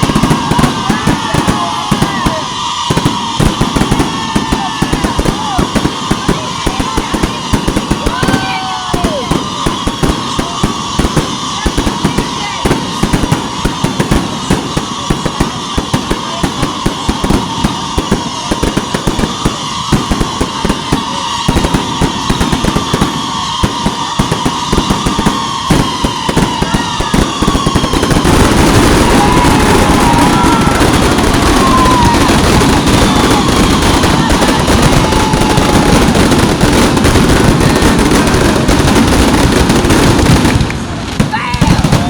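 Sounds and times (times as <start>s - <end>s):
fireworks cracking and popping: 0.0s - 42.0s.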